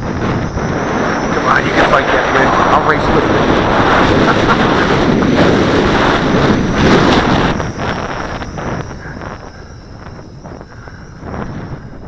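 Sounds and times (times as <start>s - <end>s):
quadcopter motors whining: 0.0s - 12.0s
wind buffeting microphone: 0.0s - 12.0s.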